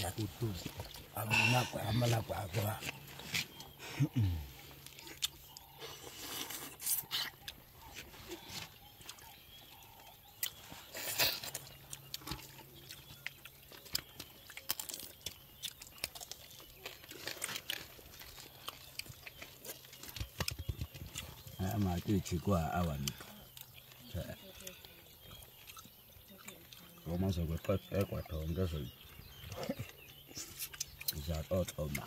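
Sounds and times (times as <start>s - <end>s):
clicks and wet smacks of eating: 0.0s - 3.8s, 4.5s - 32.0s.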